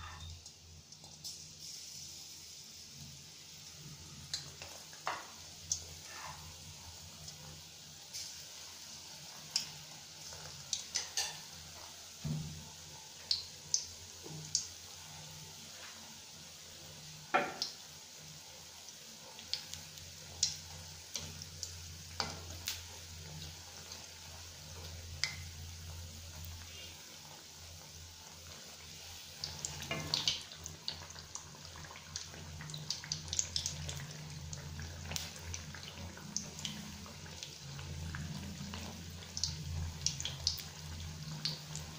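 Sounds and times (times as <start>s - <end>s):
batter deep-frying in hot oil: 0.0s - 41.9s.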